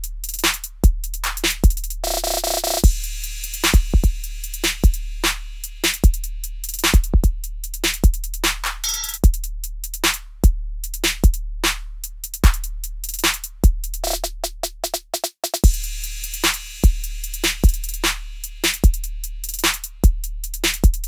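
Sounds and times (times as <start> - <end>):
hi-hat clicks: 0.0 - 10.3, 10.9 - 14.5, 15.6 - 21.0
deep bass: 0.0 - 14.1, 15.6 - 21.0
drum-machine kicks: 0.0 - 15.0, 16.5 - 21.0.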